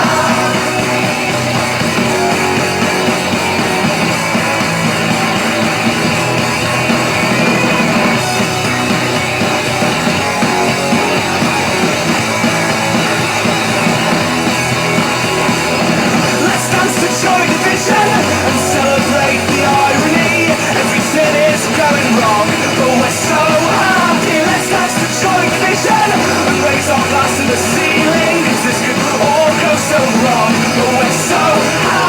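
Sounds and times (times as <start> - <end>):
instrumental rock music: 0.0 - 32.0.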